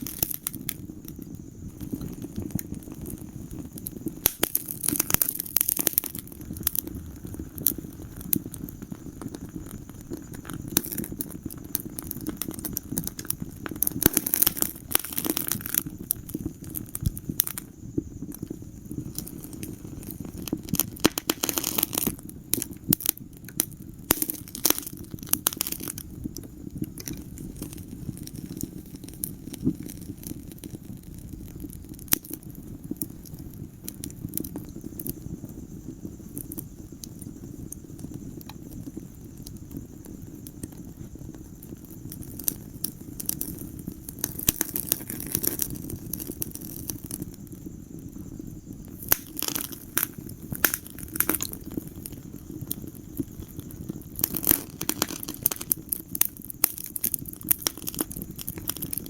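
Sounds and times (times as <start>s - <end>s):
low rush of flames: 0.0s - 59.0s
wood fire crackling: 0.0s - 59.0s.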